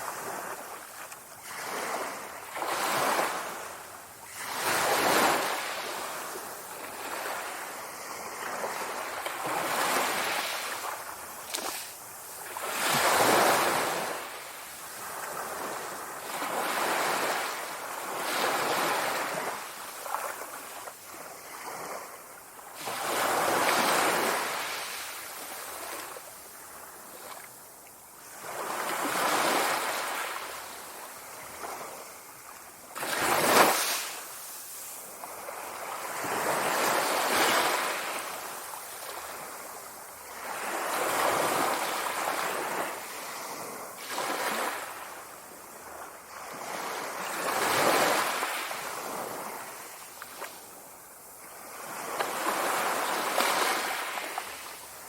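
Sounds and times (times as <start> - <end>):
sea waves breaking on shore: 0.0 - 27.6, 28.2 - 55.0.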